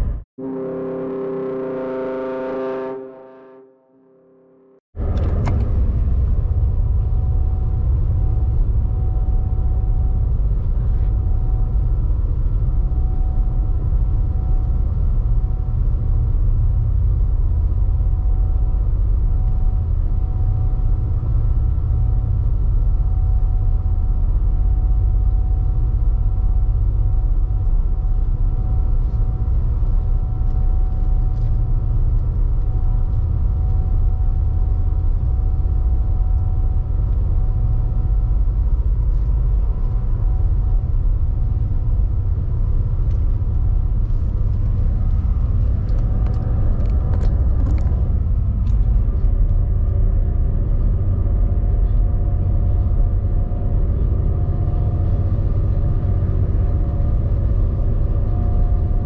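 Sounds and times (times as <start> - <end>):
large engine rumbling: 0.0 - 2.6, 5.0 - 59.0.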